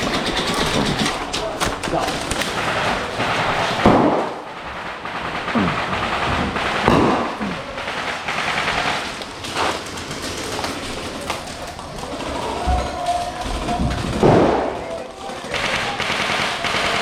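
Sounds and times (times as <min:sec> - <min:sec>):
airsoft guns firing: 0:00.0 - 0:17.0.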